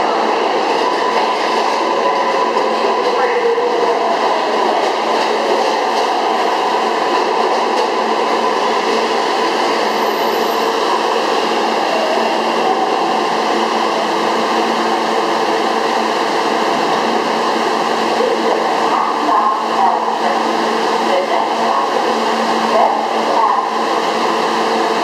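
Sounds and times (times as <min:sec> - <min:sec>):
subway train rumbling to a stop: 0:00.0 - 0:25.0.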